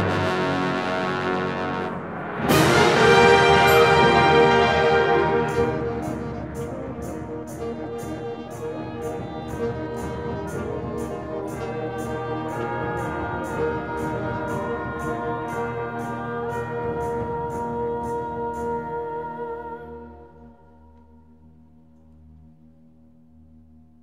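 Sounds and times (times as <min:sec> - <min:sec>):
wind band playing chords: 0:00.0 - 0:20.6.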